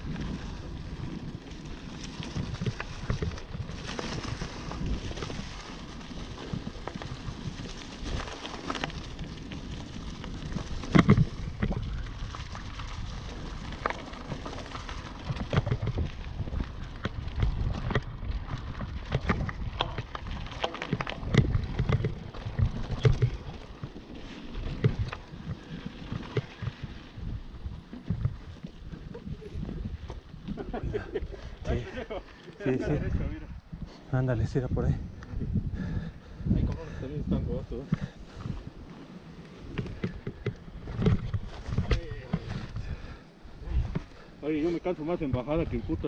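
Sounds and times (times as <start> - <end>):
bike clicks and rattles: 0.0 - 32.8, 35.0 - 46.0
bike tyres crackling over leaves: 0.0 - 46.0
wind rumble on microphone: 0.0 - 46.0.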